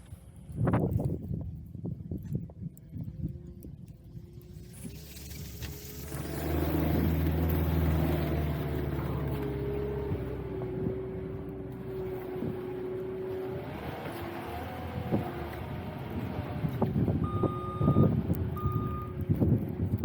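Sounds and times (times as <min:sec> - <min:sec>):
vehicle engine humming: 0:02.0 - 0:20.0.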